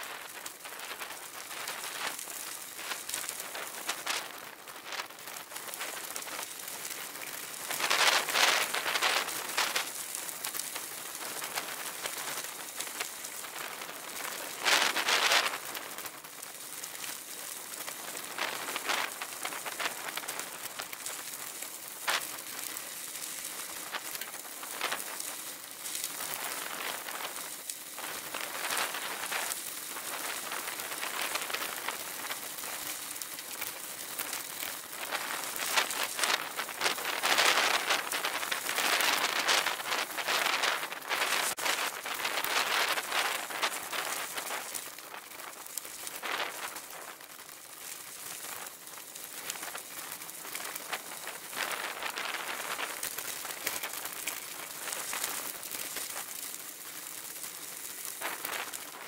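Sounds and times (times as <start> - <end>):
bicycle tyres on gravel: 0.0 - 59.0.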